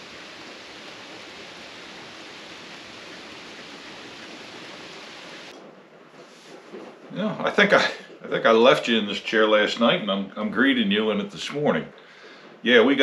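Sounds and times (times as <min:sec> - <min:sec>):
rain on a wooden deck: 0:00.0 - 0:13.0.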